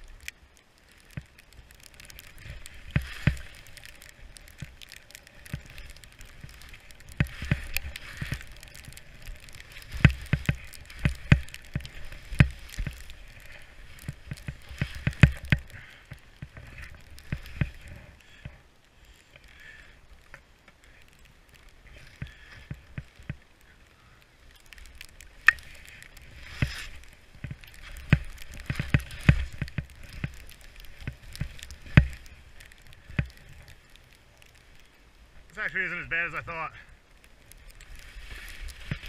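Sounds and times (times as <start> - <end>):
skis swishing through snow: 0.0 - 39.0.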